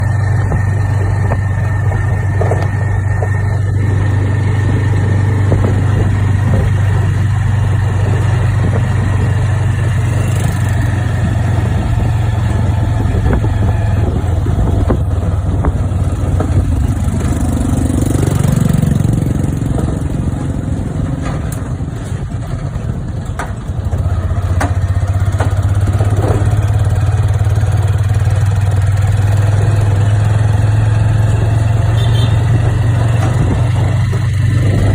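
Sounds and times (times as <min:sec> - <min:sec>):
motor engine droning: 0:00.0 - 0:34.9.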